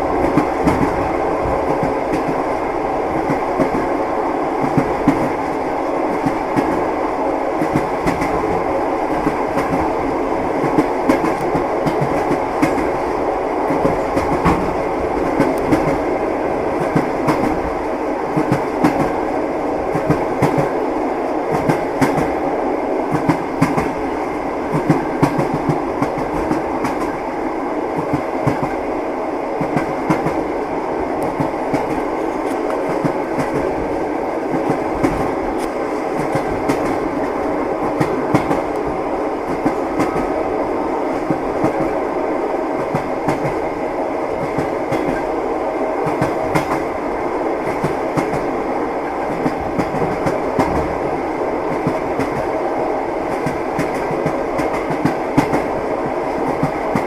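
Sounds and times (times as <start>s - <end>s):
train wheels clattering on rails: 0.0s - 4.0s, 4.6s - 6.9s, 7.6s - 19.2s, 19.9s - 20.8s, 21.4s - 22.4s, 23.1s - 27.3s, 27.9s - 28.8s, 29.6s - 30.6s, 31.2s - 40.4s, 41.1s - 42.0s, 42.7s - 45.4s, 46.0s - 47.0s, 47.6s - 52.6s, 53.2s - 57.0s.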